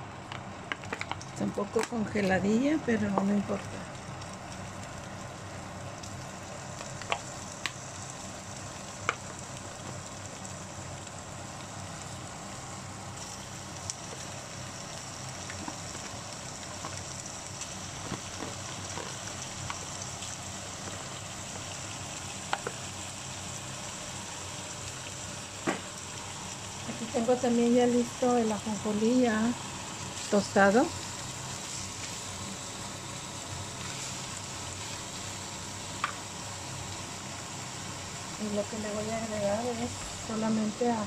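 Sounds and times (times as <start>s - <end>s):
meat sizzling in oil: 0.0s - 41.0s.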